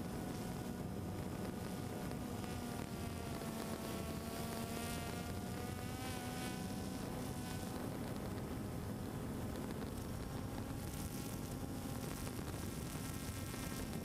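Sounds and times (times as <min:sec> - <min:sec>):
constant rushing noise: 0:00.0 - 0:14.0.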